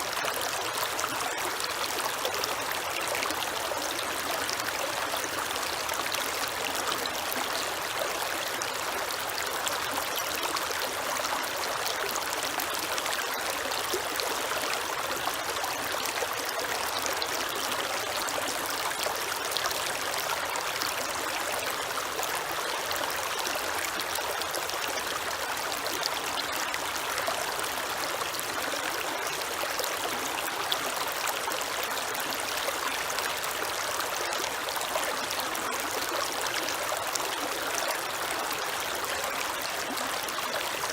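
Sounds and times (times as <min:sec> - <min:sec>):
creek water over rocks: 0:00.0 - 0:40.9.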